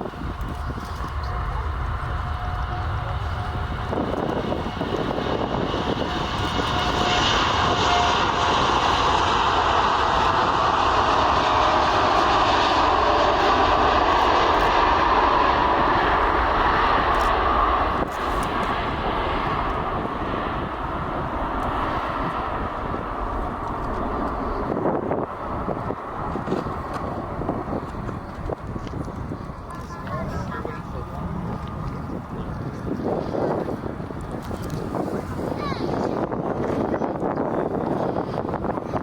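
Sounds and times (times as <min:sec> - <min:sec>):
airliner engines passing: 0:00.0 - 0:39.0.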